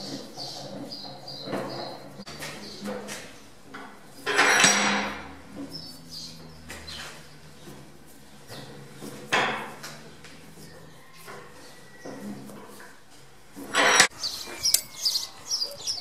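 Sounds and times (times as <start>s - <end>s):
metal scraping and clinking: 0.4s - 12.8s, 13.6s - 15.2s.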